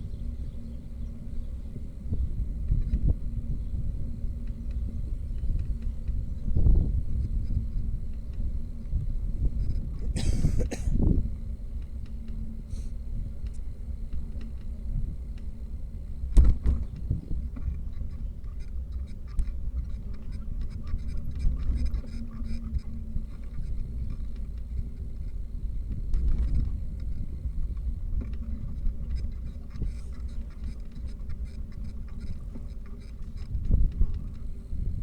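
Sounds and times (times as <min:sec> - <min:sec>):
bicycle riding rumble: 0:00.0 - 0:35.0
wind on microphone: 0:00.0 - 0:35.0.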